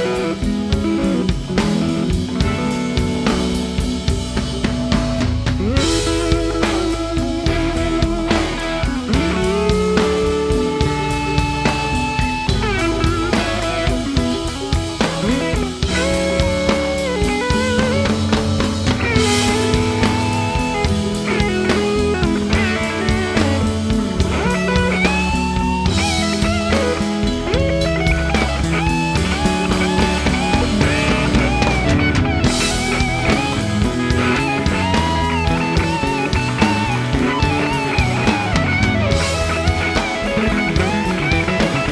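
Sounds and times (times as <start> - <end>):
rock music with guitar and drums: 0.0 - 41.9.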